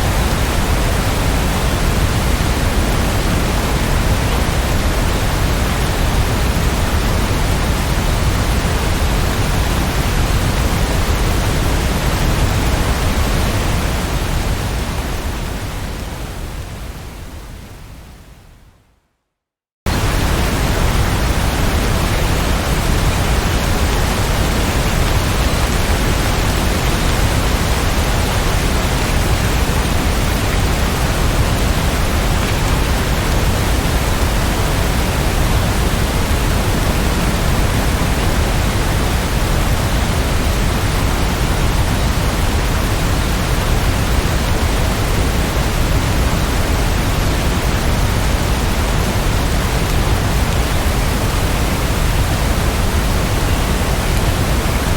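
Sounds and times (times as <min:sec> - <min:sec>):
dense rain hiss: 0:00.0 - 0:18.5, 0:19.9 - 0:54.9.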